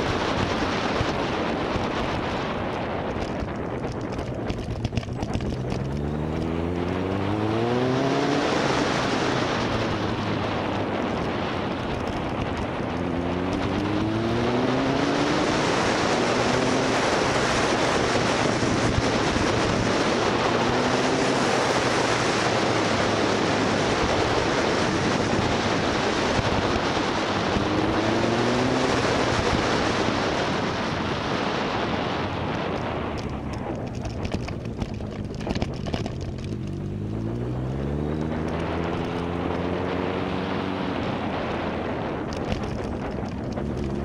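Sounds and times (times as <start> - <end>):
motorcycle engine accelerating: 0.0 - 44.0
wind noise on microphone: 0.0 - 44.0.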